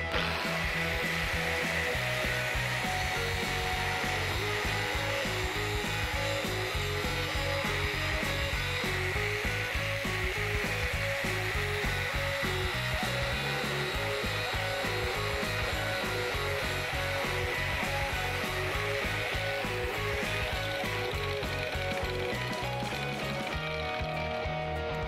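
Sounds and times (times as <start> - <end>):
instrumental background music: 0.0 - 25.0.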